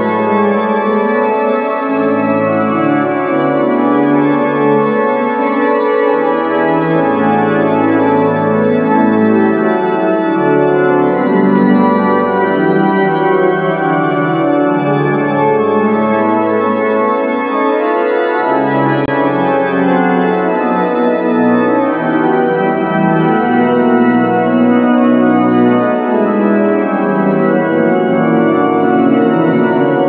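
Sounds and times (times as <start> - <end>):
pipe organ playing chords: 0.0 - 30.0.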